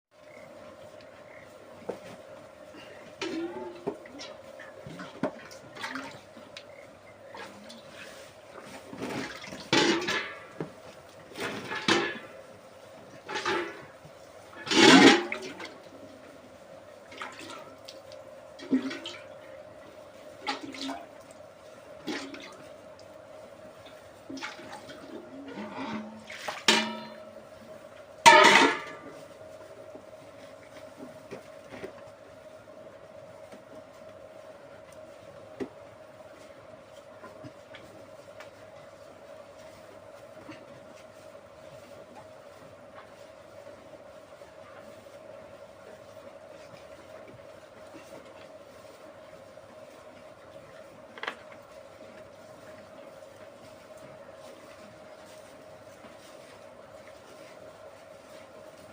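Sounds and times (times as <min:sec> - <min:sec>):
faint steady hum: 0:00.1 - 0:58.9.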